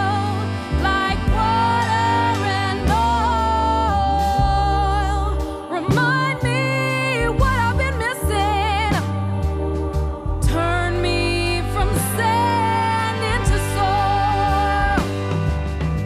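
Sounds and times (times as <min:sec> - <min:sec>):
held bass notes: 0:00.0 - 0:16.0
wavering lead melody: 0:00.0 - 0:16.0.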